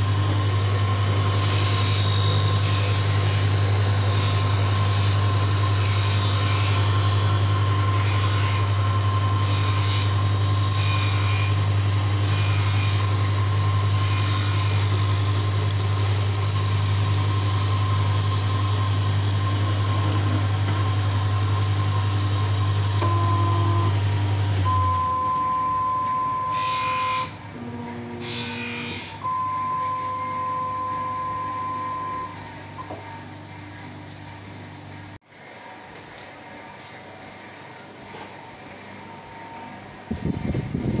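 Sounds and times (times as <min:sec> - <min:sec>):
motor humming: 0:00.0 - 0:35.2, 0:37.7 - 0:41.0.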